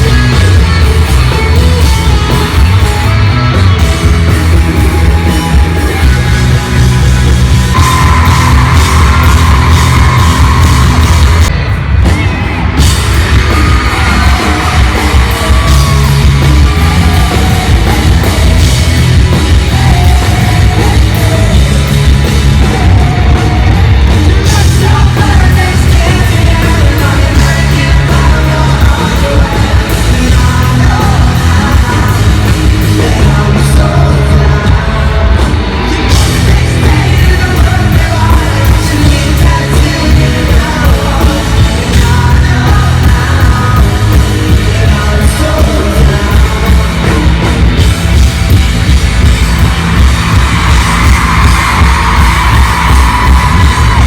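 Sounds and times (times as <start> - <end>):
person singing: 0.0 - 47.9
crowd yelling and singing along: 0.0 - 54.0
live rock band playing: 0.0 - 54.0.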